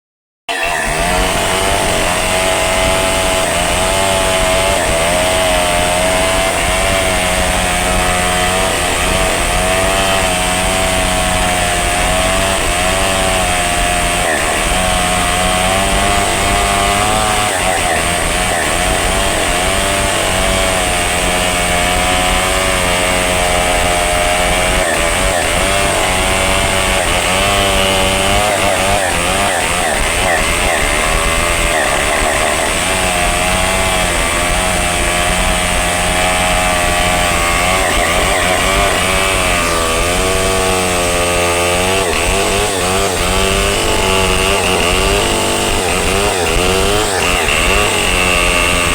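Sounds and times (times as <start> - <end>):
chainsaw cutting through trunk: 0.5 - 48.9.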